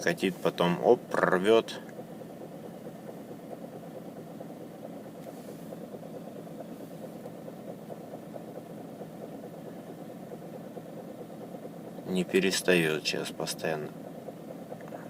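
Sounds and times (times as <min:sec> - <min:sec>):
diesel engine idling: 0:00.0 - 0:15.0
rapid ticking clatter: 0:00.0 - 0:15.0.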